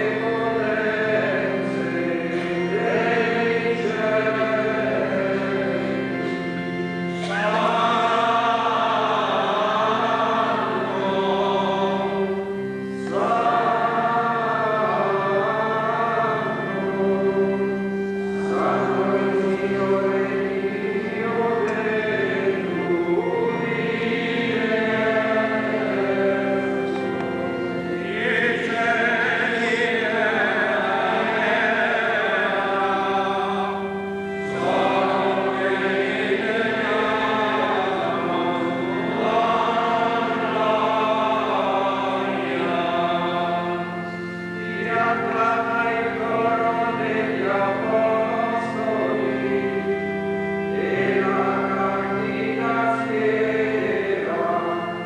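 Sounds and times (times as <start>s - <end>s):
group singing a hymn: 0.0s - 55.0s
held low notes: 0.0s - 55.0s.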